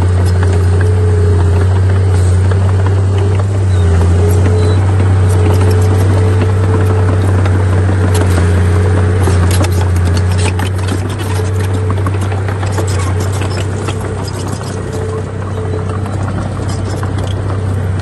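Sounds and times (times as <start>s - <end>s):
bulldozer diesel engine droning: 0.0s - 18.0s
soil and rock scraping: 0.0s - 18.0s.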